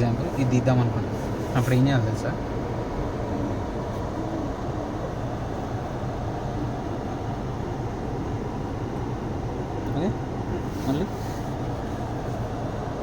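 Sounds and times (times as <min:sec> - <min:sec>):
car engine rumble: 0:00.0 - 0:13.0
heater fan running: 0:00.0 - 0:13.0.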